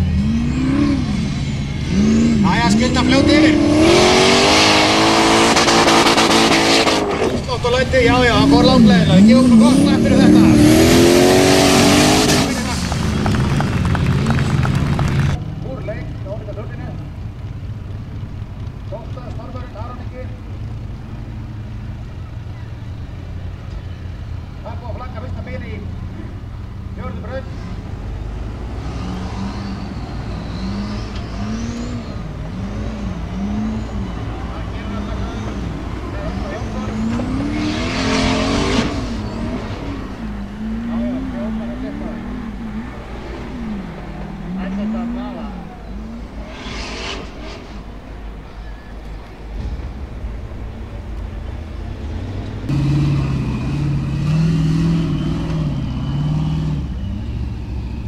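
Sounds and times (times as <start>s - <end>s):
buggy engine revving: 0.0s - 58.0s
high engine whine: 0.0s - 58.0s.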